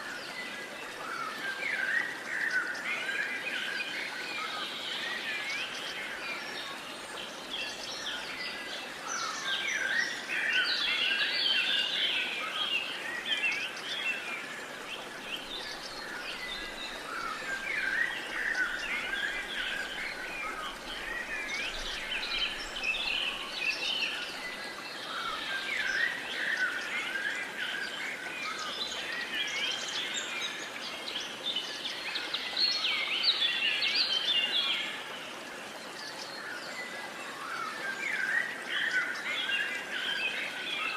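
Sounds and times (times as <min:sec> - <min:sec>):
steady outdoor hiss: 0:00.0 - 0:40.9.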